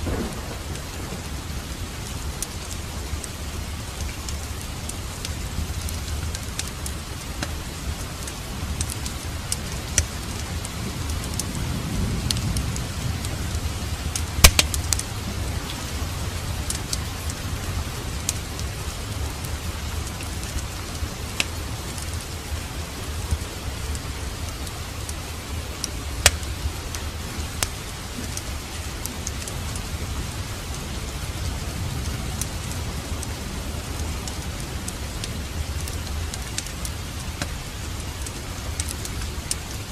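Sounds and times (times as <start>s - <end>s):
fireplace crackling and popping: 0.0s - 39.9s
steady rain: 0.0s - 39.9s.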